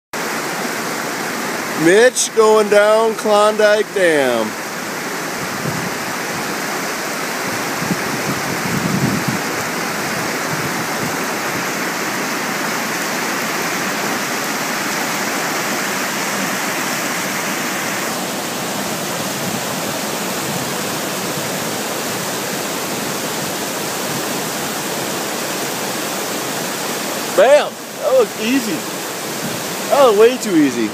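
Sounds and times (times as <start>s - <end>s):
whitewater rapids roaring: 0.2s - 30.9s.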